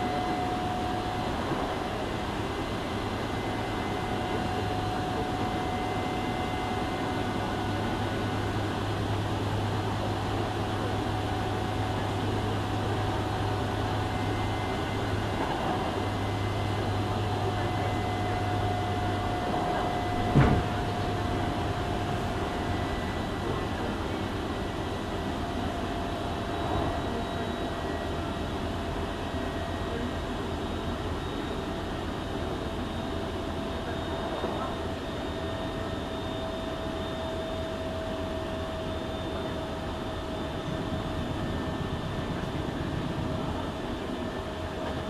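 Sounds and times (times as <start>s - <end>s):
train wheels rumbling on rail: 0.0s - 38.0s, 39.3s - 45.0s.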